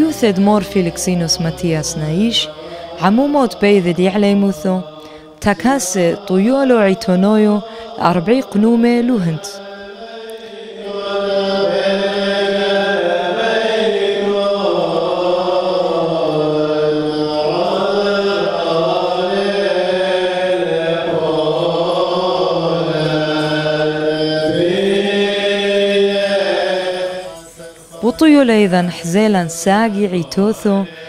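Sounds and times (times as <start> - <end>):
congregation chanting a hymn: 0.0 - 31.0.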